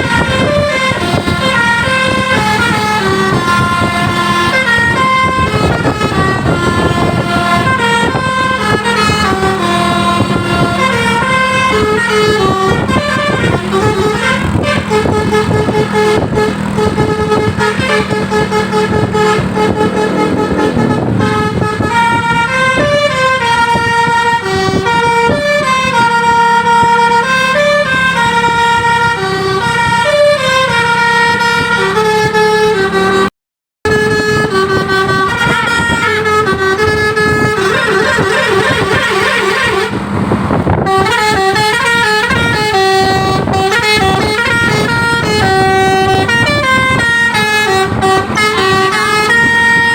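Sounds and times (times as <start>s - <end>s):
musical bus horns playing a tune: 0.0s - 49.9s.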